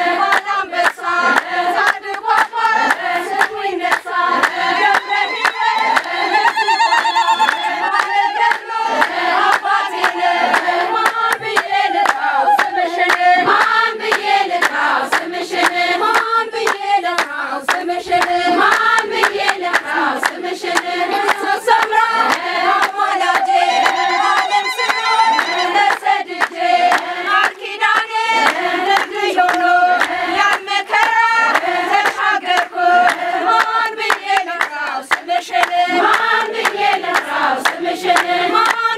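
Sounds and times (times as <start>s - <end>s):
women singing a hymn: 0.0s - 38.9s
hand-clapping: 0.1s - 38.9s.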